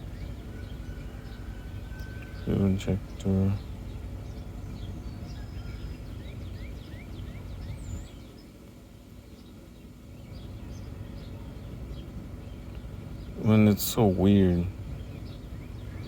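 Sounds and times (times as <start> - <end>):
birds chirping: 0.0 - 16.0
car engine idling: 0.0 - 16.0.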